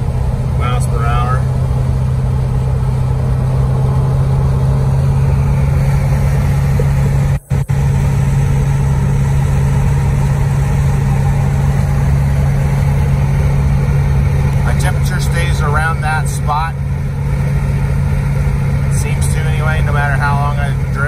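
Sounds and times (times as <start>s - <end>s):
car engine drone in cabin: 0.0s - 21.0s
road noise: 0.0s - 21.0s.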